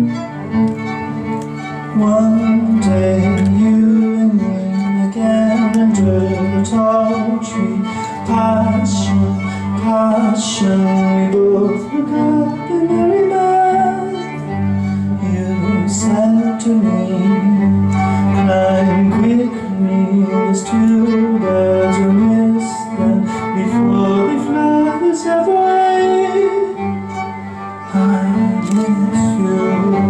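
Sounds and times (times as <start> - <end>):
guitar: 0.0 - 30.0
violin: 0.0 - 30.0.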